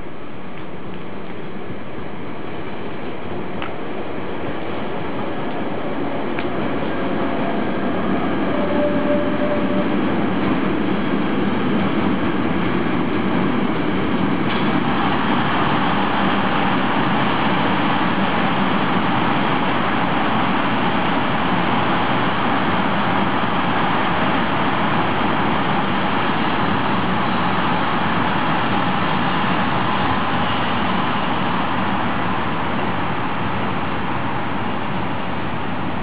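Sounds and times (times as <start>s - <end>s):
train wheels running on rails: 0.0s - 36.0s.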